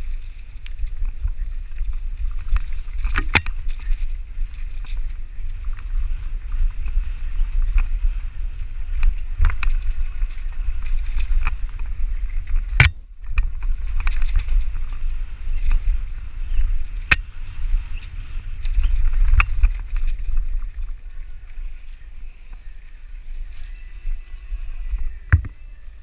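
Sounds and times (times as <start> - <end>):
bike knocks and rattles: 0.0 - 21.6
wind rumble on microphone: 0.0 - 26.0.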